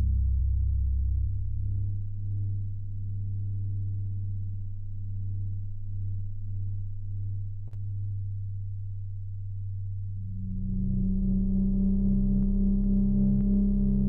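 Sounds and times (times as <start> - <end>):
low meditation music drone: 0.0 - 14.0.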